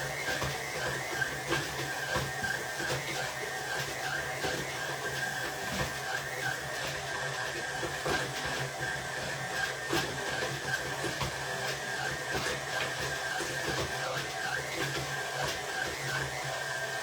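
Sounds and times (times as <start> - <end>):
electric mixer motor running: 0.0 - 17.0.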